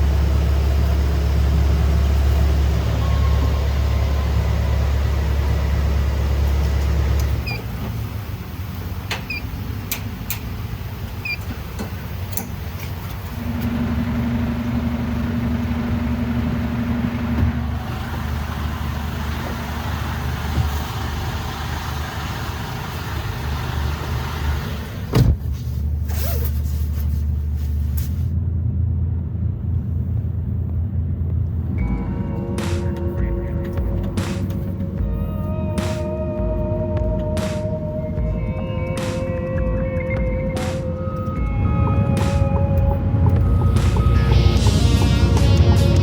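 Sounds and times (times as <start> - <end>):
truck engine rumbling: 0.0 - 46.0.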